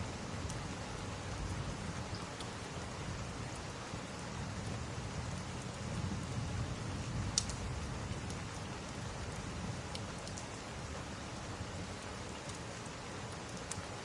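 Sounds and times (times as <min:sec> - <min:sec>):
steady rain: 0:00.0 - 0:14.0
fireplace logs crackling and popping: 0:00.4 - 0:06.1, 0:07.0 - 0:10.9, 0:11.8 - 0:14.0.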